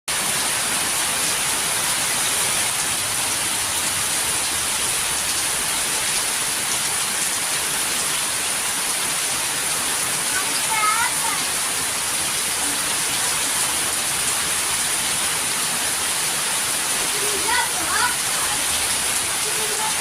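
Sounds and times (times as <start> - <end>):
heavy rain falling: 0.1 - 20.0.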